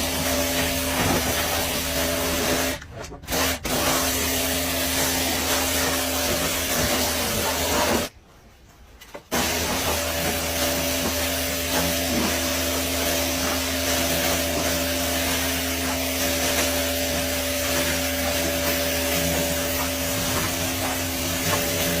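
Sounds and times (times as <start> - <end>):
car wash motor hum: 0.0 - 8.2, 9.3 - 22.0
rubbing and spraying noise: 0.0 - 8.2, 9.3 - 22.0.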